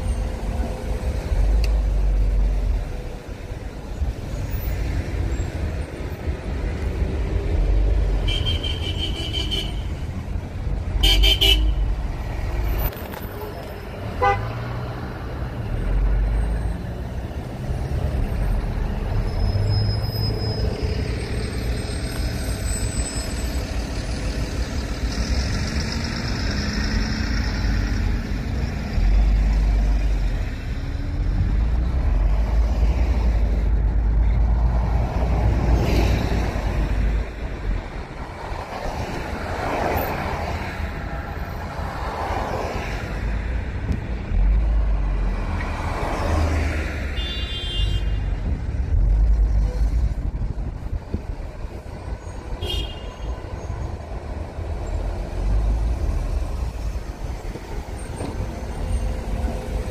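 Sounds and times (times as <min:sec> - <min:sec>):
tyre and road roar: 0:00.0 - 0:59.9.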